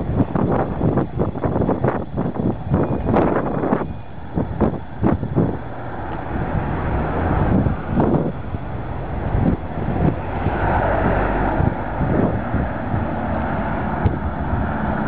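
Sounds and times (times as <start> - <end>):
vehicle drone: 0.0 - 15.0
wind buffeting microphone: 0.0 - 15.0.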